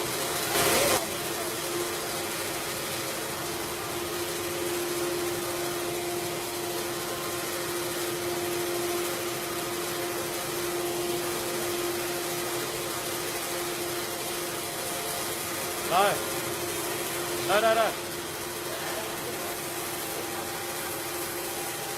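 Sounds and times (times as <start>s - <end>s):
cnc router whine: 0.0s - 21.9s
hiss: 0.0s - 21.9s.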